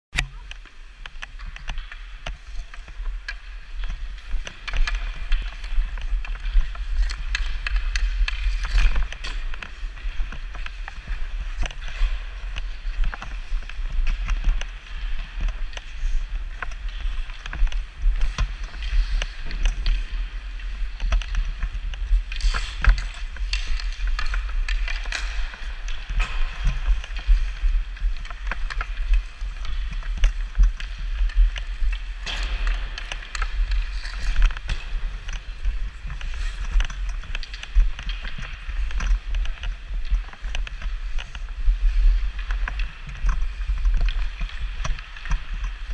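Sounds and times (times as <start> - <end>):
sticks clicking on pucks: 0.2 - 45.9
skates scraping on ice: 0.7 - 45.9.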